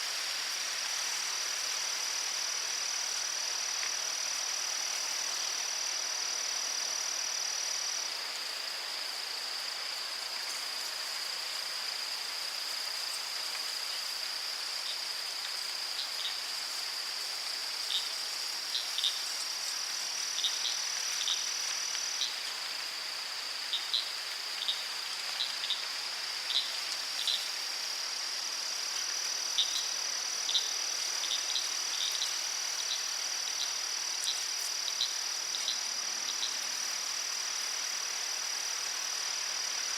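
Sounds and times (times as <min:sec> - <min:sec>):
crickets trilling: 0:00.0 - 0:39.9
soft steady hiss: 0:00.0 - 0:39.9.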